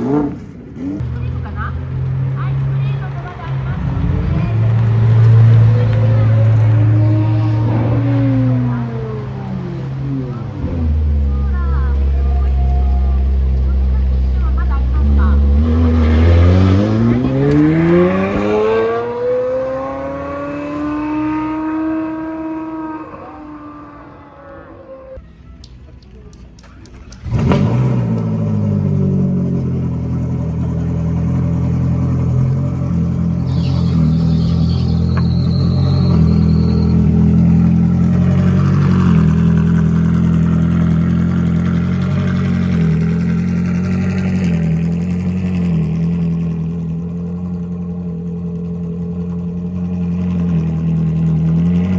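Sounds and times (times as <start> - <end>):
car engine accelerating: 0.0 - 25.2, 26.8 - 51.9.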